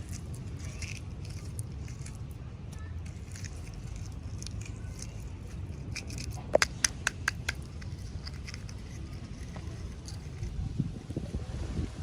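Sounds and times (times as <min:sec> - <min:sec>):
small hard objects handled: 0:00.0 - 0:11.0
low steady rumble: 0:00.0 - 0:12.0.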